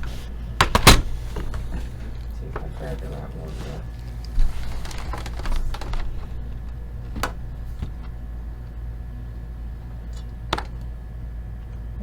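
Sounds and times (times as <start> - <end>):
hardware clicking and rustling: 0.0 - 11.9
steady low hum: 0.0 - 12.0.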